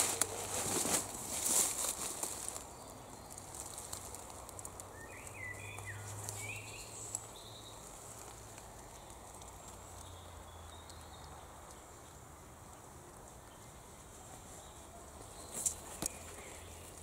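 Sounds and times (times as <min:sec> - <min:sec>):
leafy vines rustling and clicking: 0:00.0 - 0:12.0, 0:12.7 - 0:17.0.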